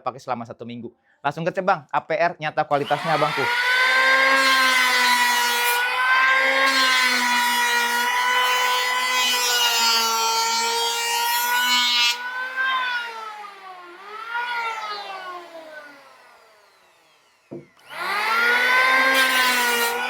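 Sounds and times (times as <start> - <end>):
electric planer motor whine: 2.8 - 20.0
planer blades cutting wood: 2.8 - 20.0.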